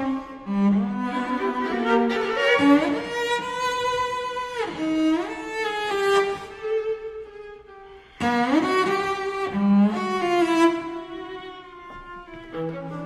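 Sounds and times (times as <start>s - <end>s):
string quartet playing: 0.0s - 13.0s.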